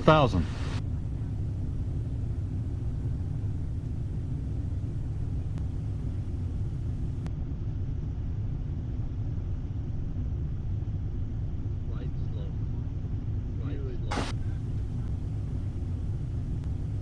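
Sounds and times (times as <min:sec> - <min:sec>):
jet cockpit low rumble: 0:00.0 - 0:17.0.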